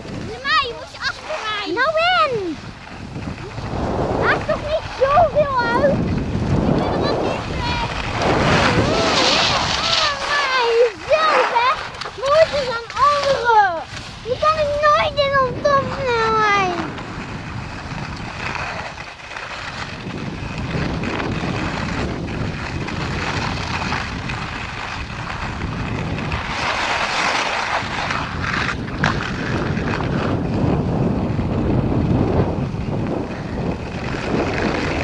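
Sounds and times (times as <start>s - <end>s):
skis scraping over snow: 0.0s - 35.0s
wind rushing over microphone: 0.0s - 35.0s.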